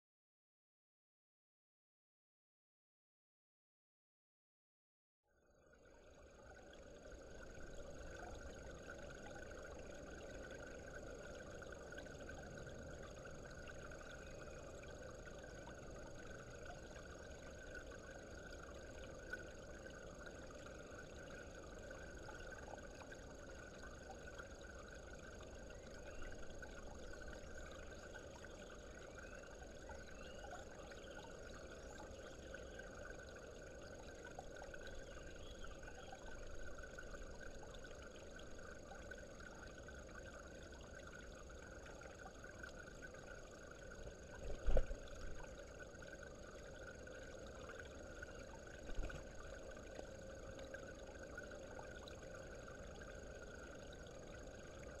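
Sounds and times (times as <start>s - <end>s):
faint trickle of water: 5.3s - 55.0s.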